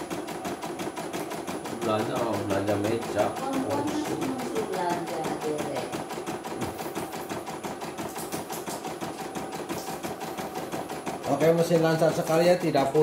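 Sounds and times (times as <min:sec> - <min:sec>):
embroidery machine needle clatter: 0:00.0 - 0:13.0.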